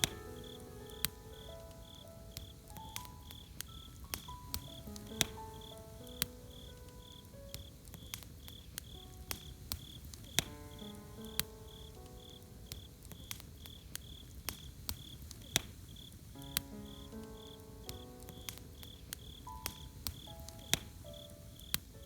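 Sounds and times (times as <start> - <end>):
soft sustained music: 0.0 - 14.0, 16.4 - 22.0
campfire crackling and popping: 0.0 - 22.0
crickets chirping: 0.0 - 22.0.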